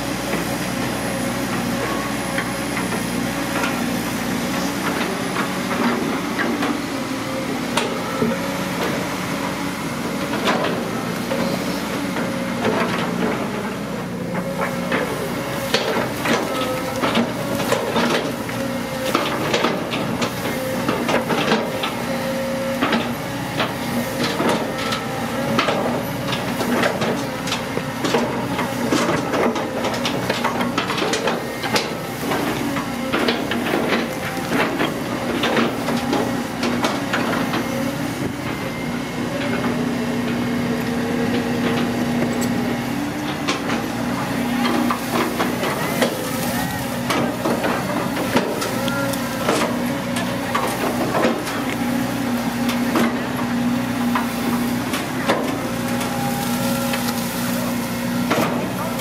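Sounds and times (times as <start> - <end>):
excavator engine and hydraulic whine: 0.0 - 59.0.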